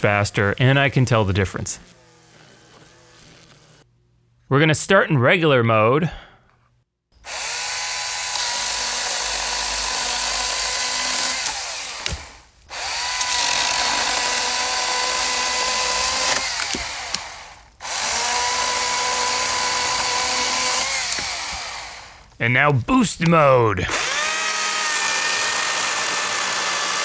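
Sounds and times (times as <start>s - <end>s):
electric chainsaw whining: 0.4s - 3.9s, 7.2s - 22.4s, 23.9s - 27.0s.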